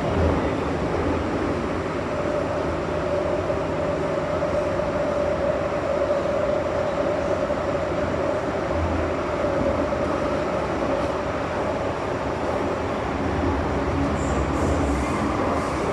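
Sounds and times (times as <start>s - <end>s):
electric train rumble: 0.0s - 15.9s
steady train whine: 0.0s - 15.9s.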